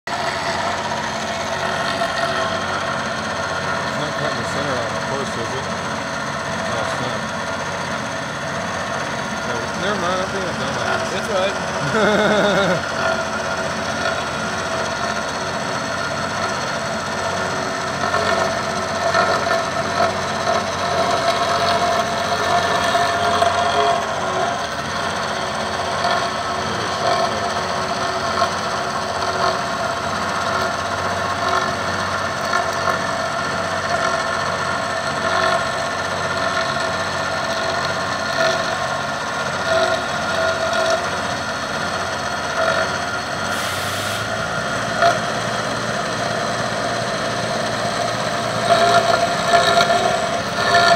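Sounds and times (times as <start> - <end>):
milling machine cutting metal: 0.1 - 50.9.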